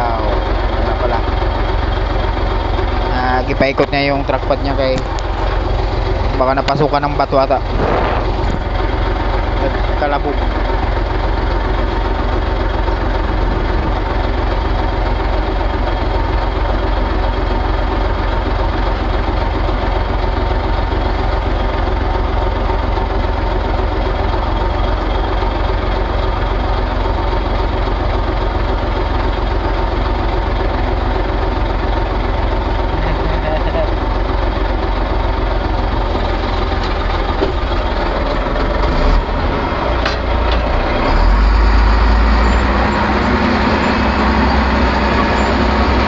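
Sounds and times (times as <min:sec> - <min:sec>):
diesel engine rumbling: 0:00.0 - 0:46.0.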